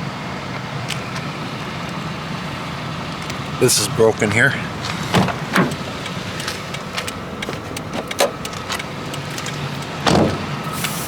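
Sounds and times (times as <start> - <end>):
motor vehicle humming: 0.0 - 11.0.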